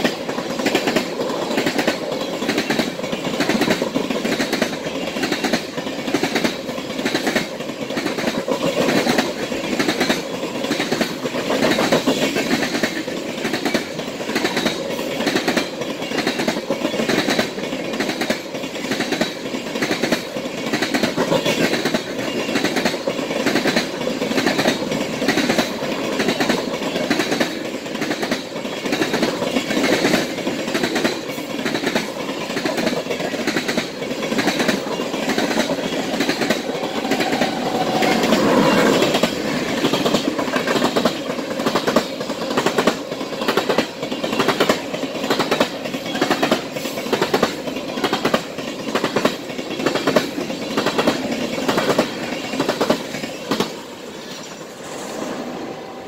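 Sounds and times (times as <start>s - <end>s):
train wheels clacking on rail joints: 0.0s - 54.7s
train rumble: 0.0s - 56.0s.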